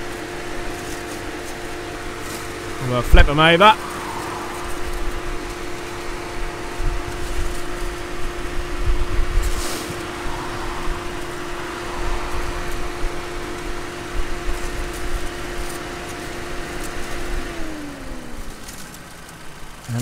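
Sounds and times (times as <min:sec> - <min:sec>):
radiator cooling fan humming: 0:00.0 - 0:20.0.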